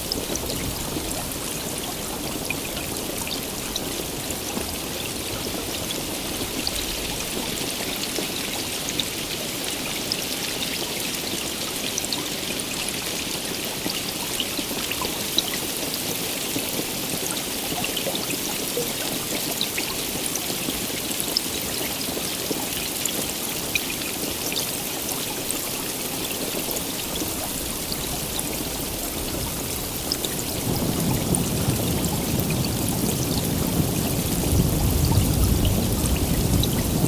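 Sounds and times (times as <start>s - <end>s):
heavy rain: 0.0s - 37.0s.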